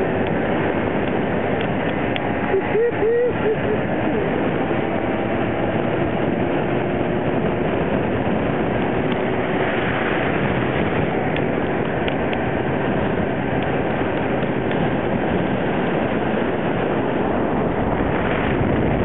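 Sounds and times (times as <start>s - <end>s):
vehicle engine and tyre noise: 0.0s - 19.0s
wind rushing over microphone: 0.0s - 19.0s.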